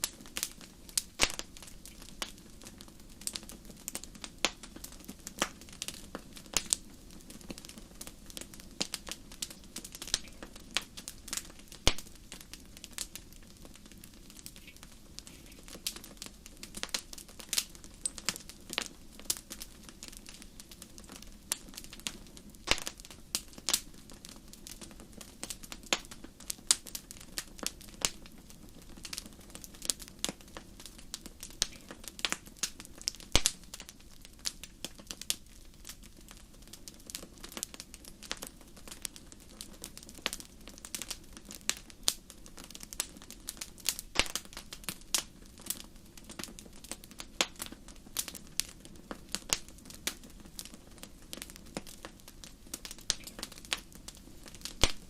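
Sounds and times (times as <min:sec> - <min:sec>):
low rumble of burning logs: 0:00.0 - 0:55.0
wood fire crackling: 0:00.0 - 0:55.0.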